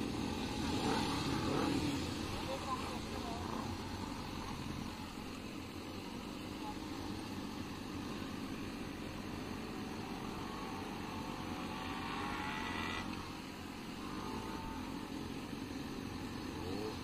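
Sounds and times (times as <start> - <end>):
motorcycle engine drone: 0.0 - 17.0
rising engine whine: 0.0 - 17.0.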